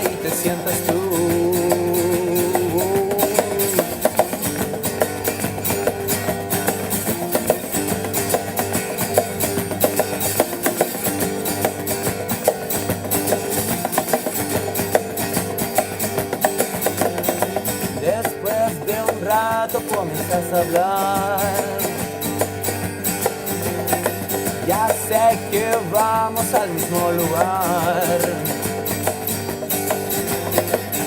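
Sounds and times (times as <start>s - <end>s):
drum kit beat: 0.0s - 31.0s
electric guitar: 0.0s - 31.0s.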